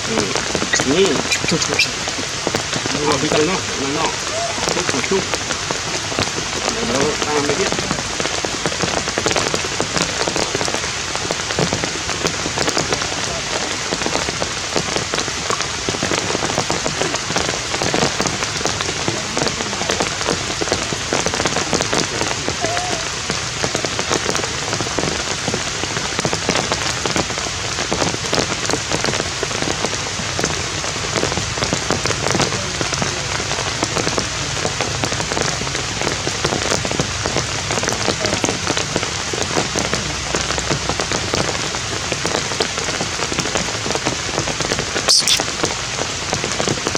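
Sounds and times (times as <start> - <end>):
heavy rain pattering: 0.0 - 46.9.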